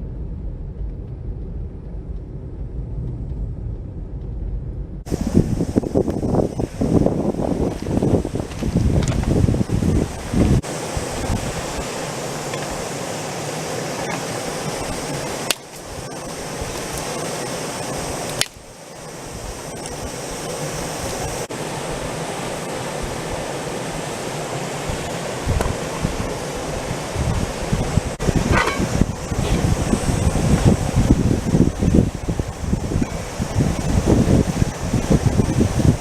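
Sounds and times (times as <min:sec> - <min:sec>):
stream rushing over stones: 0:05.1 - 0:36.0.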